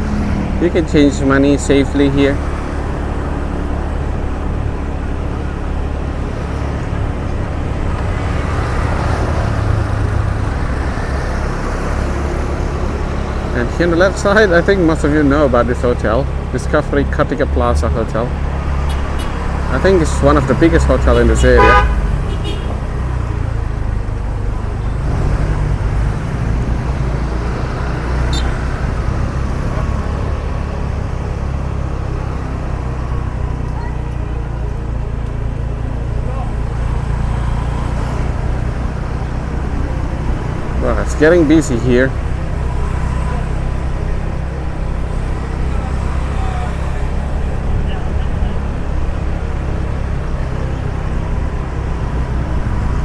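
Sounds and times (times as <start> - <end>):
car engine and tyre rumble: 0.0 - 53.0
road traffic: 0.0 - 53.0.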